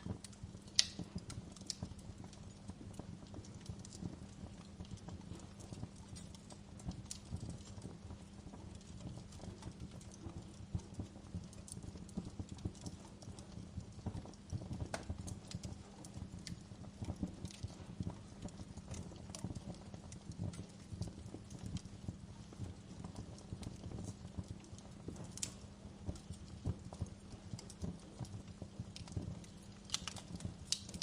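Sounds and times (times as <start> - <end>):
fire crackling and snapping: 0.0 - 31.0
flames rushing: 0.0 - 31.0.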